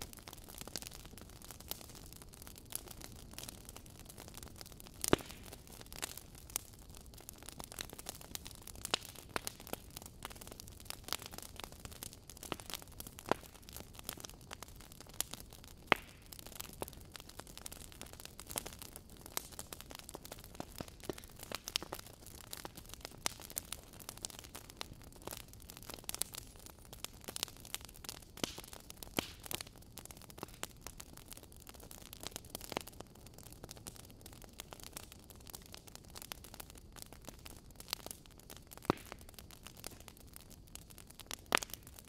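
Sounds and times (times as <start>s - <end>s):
logs crackling in fireplace: 0.0s - 42.0s
low hiss of fire: 0.0s - 42.0s.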